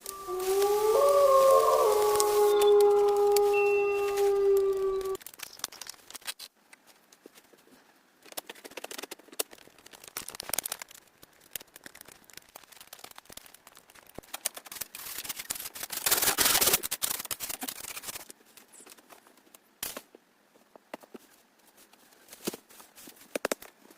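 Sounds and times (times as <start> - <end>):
rustling: 0.0 - 23.9
small materials clicking and crackling: 0.0 - 23.9.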